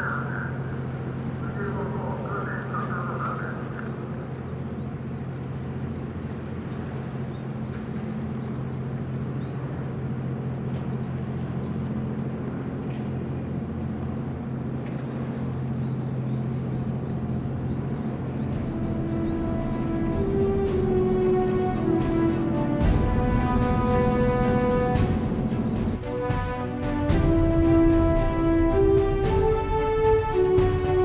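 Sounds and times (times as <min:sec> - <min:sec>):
ship engine low hum: 0:00.0 - 0:31.0.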